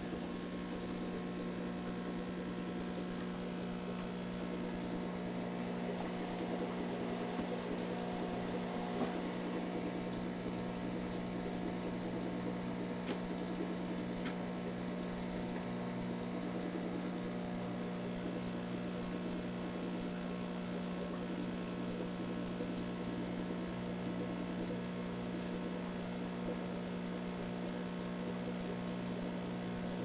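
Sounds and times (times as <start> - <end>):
aquarium filter humming: 0.0 - 30.0
faint ticks: 0.0 - 30.0.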